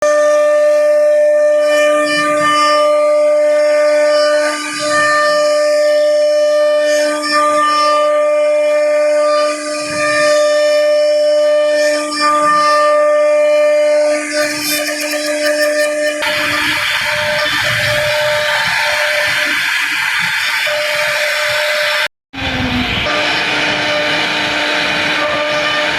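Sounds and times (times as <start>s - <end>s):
router spindle high whine: 0.1s - 25.9s.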